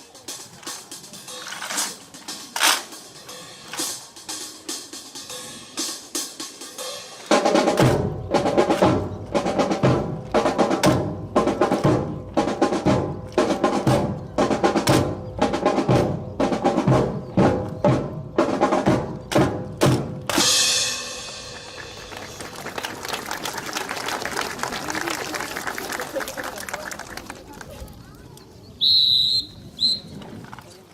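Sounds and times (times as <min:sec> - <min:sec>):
drum-driven music: 0:00.0 - 0:25.0.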